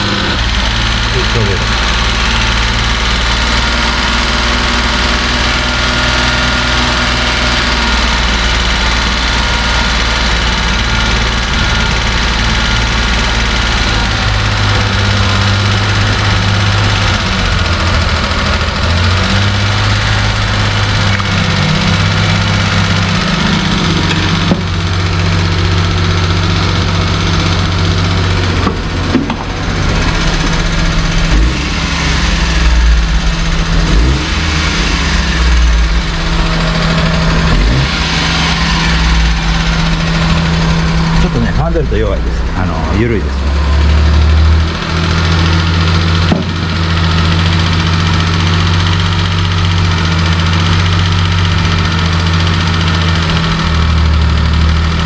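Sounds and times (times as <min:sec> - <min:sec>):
truck engine idling unsteadily: 0:00.0 - 0:55.0.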